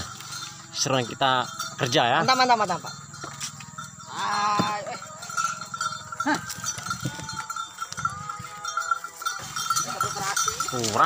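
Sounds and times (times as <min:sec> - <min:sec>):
cattle bells jingling: 0:00.0 - 0:11.0.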